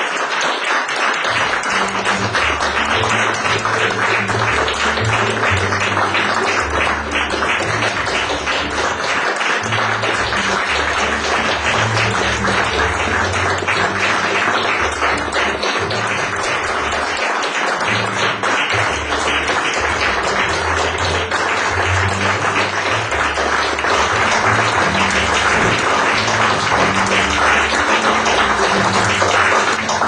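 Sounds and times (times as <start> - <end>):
audience applause: 0.0 - 30.0
music with walking bass line: 1.5 - 9.0, 9.6 - 17.1, 17.9 - 30.0.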